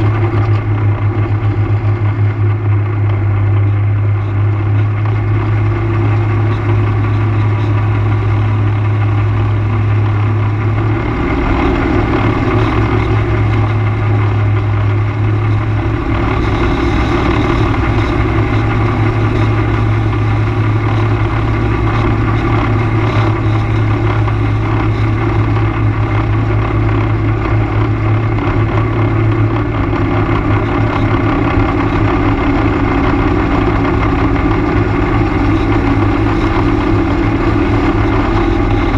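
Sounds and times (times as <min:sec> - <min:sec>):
atv engine droning: 0:00.0 - 0:38.9.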